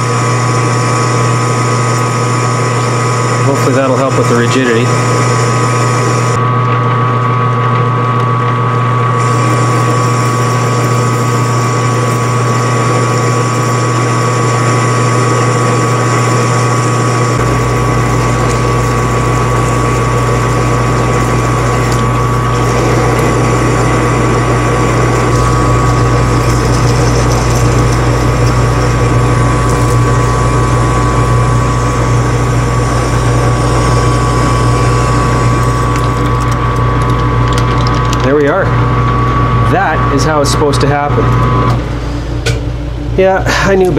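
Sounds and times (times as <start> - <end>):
metal lathe whining: 0.0 - 42.2
deep hum: 0.0 - 43.9.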